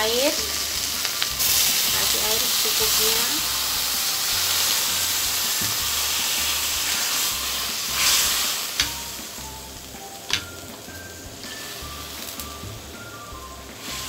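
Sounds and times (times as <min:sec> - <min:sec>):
water sizzling in hot wok: 0:00.0 - 0:14.0.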